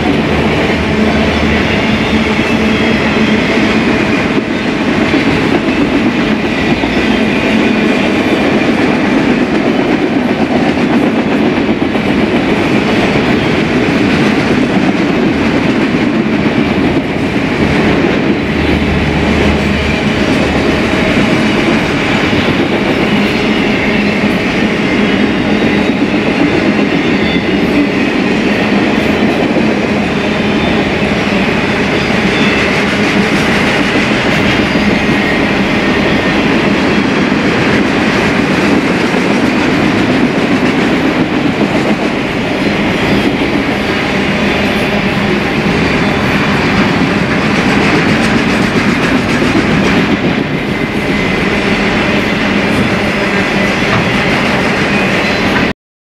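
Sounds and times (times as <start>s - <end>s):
freight train wheels rumbling: 0.0s - 55.7s.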